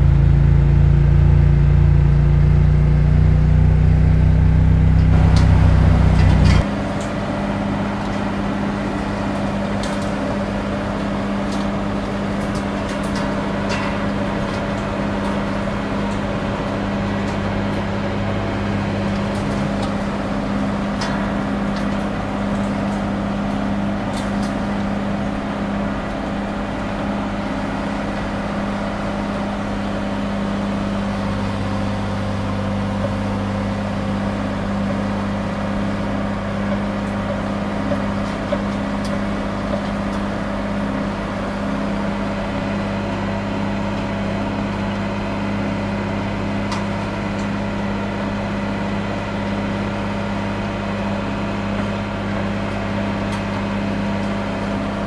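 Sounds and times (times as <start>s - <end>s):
tractor diesel engine droning: 0.0s - 55.0s.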